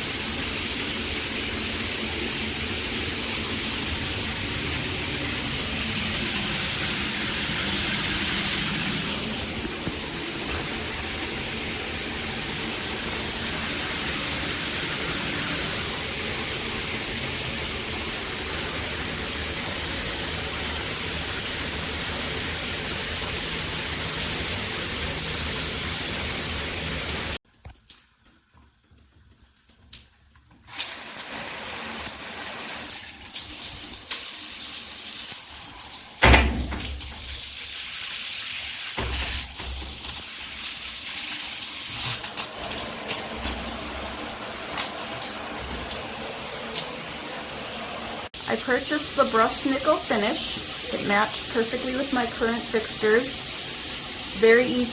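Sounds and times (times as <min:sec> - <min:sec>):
shower head spraying water: 0:00.0 - 0:27.4, 0:30.7 - 0:54.9.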